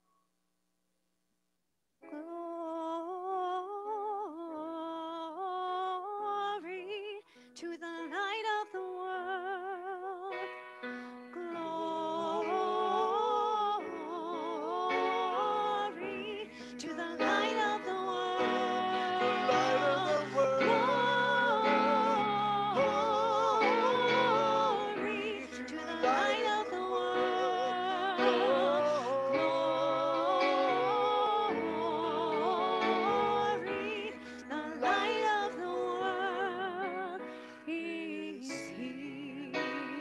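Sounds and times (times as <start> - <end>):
piano: 2.0 - 40.0
woman singing a ballad: 2.1 - 40.0.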